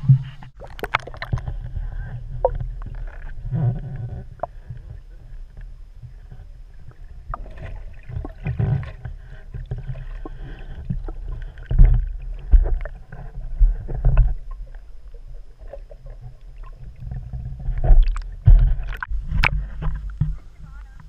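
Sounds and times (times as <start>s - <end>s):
muffled underwater rumbling: 0.0s - 21.0s
underwater thumps and knocks: 0.0s - 21.0s.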